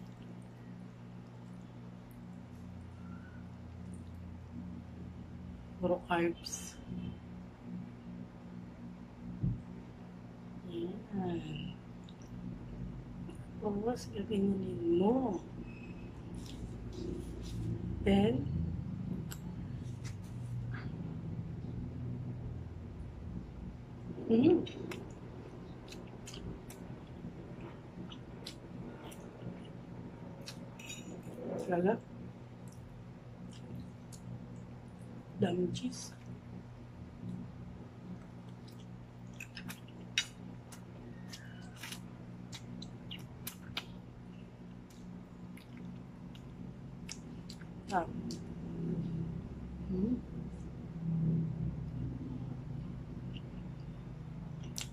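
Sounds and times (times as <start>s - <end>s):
low background hum: 0.0s - 54.9s.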